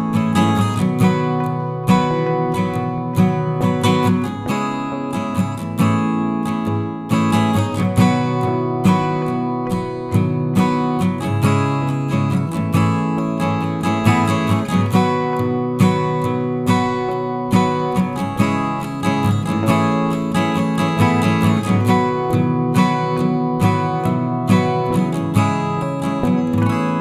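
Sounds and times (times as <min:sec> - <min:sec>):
acoustic guitar strummed and plucked: 0:00.0 - 0:27.0.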